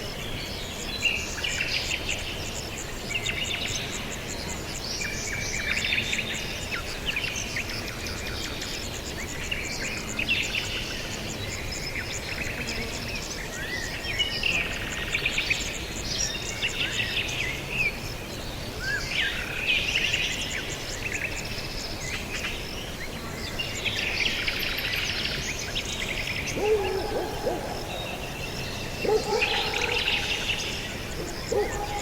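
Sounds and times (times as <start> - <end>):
songbirds chirping and trilling: 0.0 - 32.0
steady background hiss: 0.0 - 32.0.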